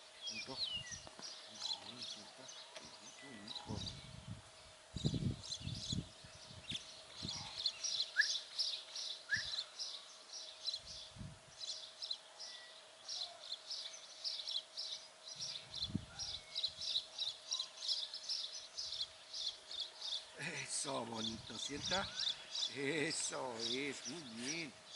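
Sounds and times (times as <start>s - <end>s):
birds chirping: 0.0s - 24.9s
faint steady hum: 0.0s - 24.9s.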